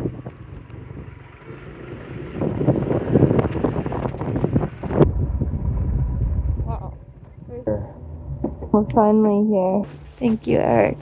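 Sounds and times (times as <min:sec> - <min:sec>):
motorbike riding: 0:00.0 - 0:11.0
wind buffeting microphone: 0:00.0 - 0:11.0.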